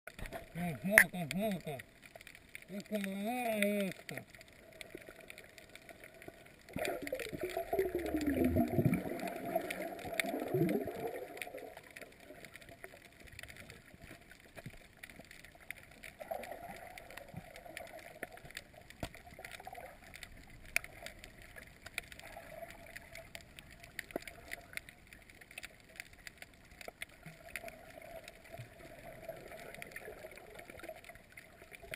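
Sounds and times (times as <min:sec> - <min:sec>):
faint steady hiss: 0:00.1 - 0:31.9
small clicks: 0:00.1 - 0:31.9
underwater gurgling: 0:00.1 - 0:31.9.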